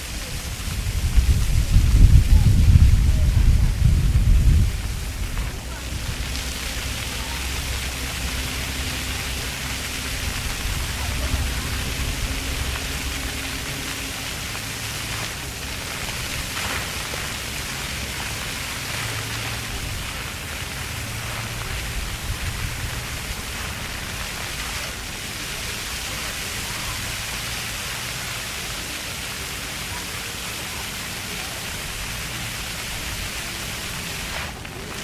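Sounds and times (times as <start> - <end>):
fountain jets splashing on pavement: 0.0 - 35.0.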